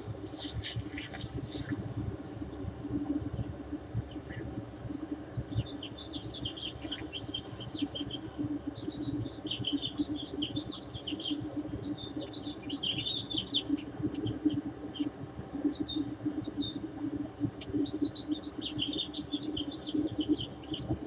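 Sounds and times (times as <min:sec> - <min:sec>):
steady low rumble: 0:00.0 - 0:21.0
small birds chirping: 0:00.3 - 0:01.8, 0:02.4 - 0:21.0.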